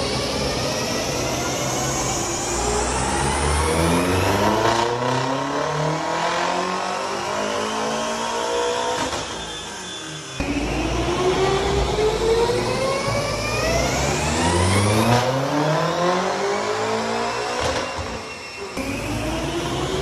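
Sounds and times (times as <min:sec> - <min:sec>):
car engine revving: 0:00.0 - 0:18.1, 0:18.8 - 0:20.0.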